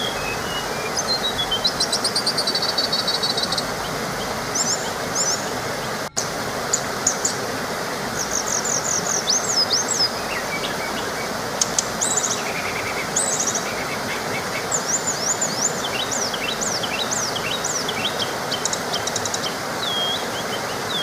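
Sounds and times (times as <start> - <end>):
birds chirping and trilling: 0.0 - 7.4, 8.1 - 21.0
small waterfall rushing: 0.0 - 21.0.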